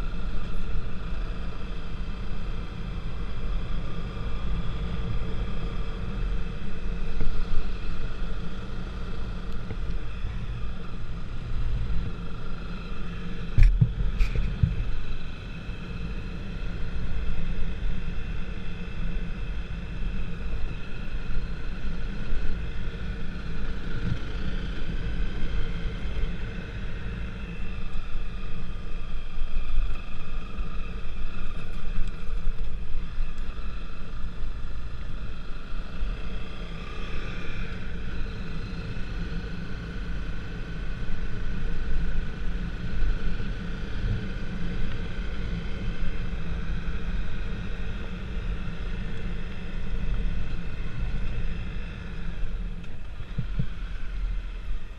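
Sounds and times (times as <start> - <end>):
vehicle engine rumbling: 0.0 - 54.9.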